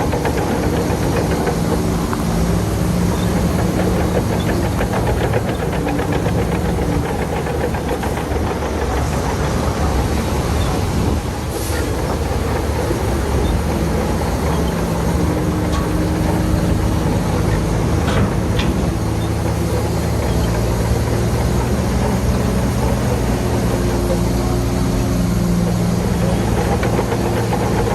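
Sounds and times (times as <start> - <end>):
heavy diesel engines running: 0.0 - 27.9.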